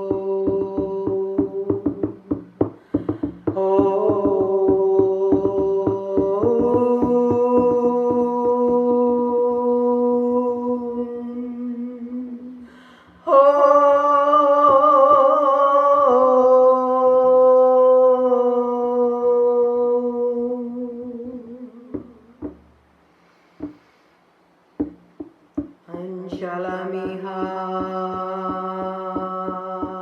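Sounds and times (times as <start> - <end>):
person humming long held tones: 0.0 - 22.5, 25.9 - 30.0.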